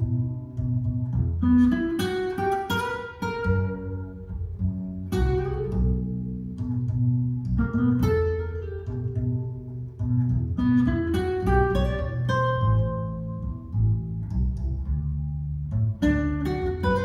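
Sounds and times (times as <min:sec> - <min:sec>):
acoustic guitar plucking: 0:00.0 - 0:17.0
walking double bass: 0:00.0 - 0:17.0.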